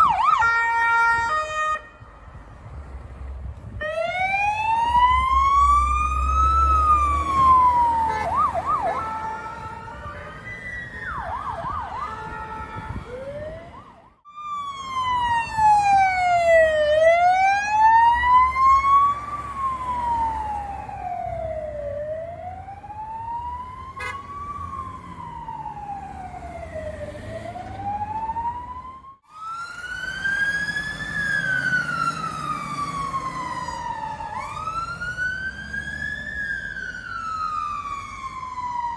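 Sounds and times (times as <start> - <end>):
sirens wailing: 0.0 - 2.4, 3.8 - 38.9.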